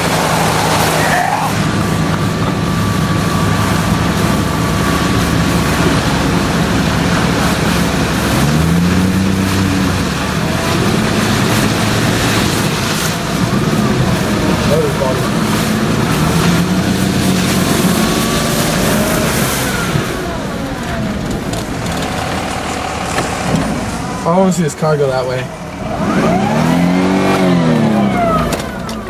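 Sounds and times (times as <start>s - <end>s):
floodwater rushing: 0.0s - 29.0s
heavy rain: 0.0s - 29.0s
vehicle engine running: 0.0s - 29.0s.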